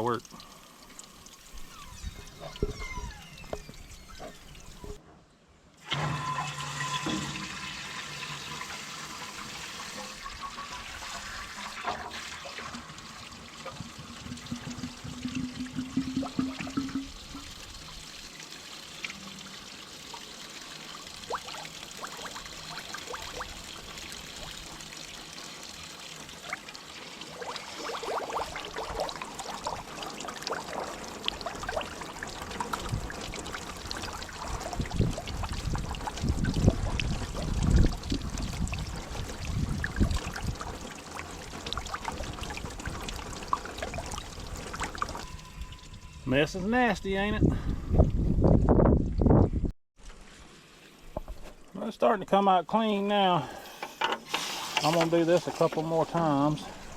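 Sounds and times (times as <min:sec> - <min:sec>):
water pouring and splashing: 0:00.0 - 0:05.0, 0:05.8 - 0:56.9.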